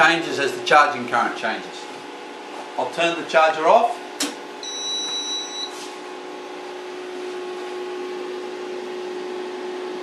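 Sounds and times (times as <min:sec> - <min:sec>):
cooling fan rushing: 0:00.0 - 0:10.0
inverter humming: 0:00.0 - 0:10.0.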